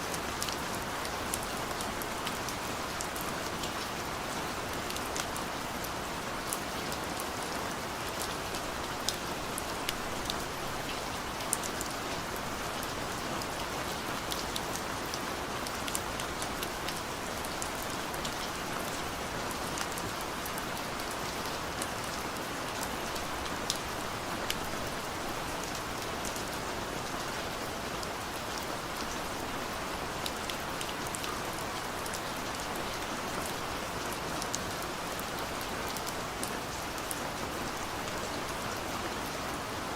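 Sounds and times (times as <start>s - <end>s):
raindrops ticking on a surface: 0.1s - 39.7s.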